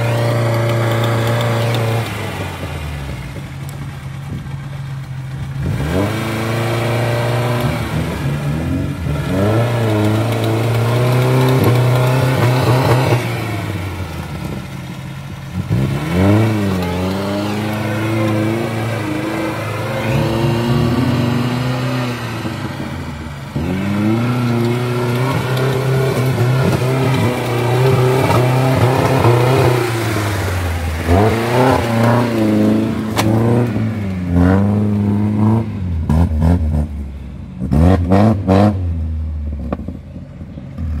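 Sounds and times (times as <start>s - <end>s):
car engine revving in mud: 0.0s - 41.0s.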